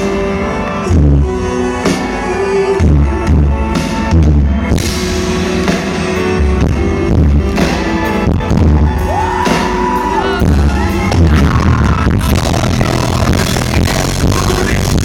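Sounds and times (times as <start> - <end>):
live pop-soul band: 0.0 - 15.0.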